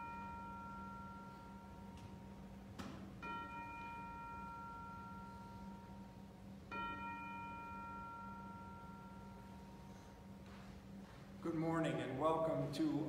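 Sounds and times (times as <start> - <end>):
bell ringing: 0.0 - 11.6.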